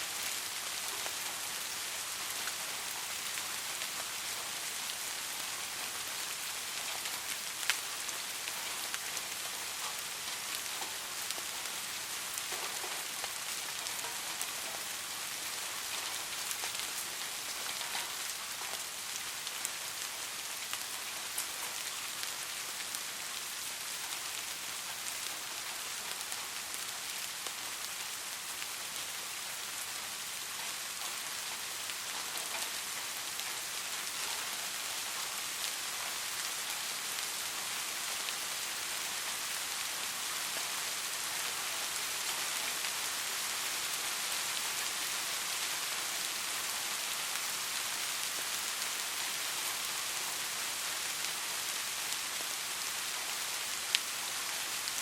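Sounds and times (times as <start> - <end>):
soft steady rain: 0.0 - 55.0.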